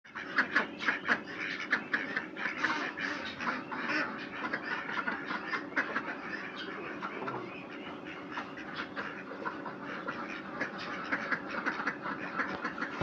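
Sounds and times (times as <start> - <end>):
ducks quacking: 0.1 - 13.0.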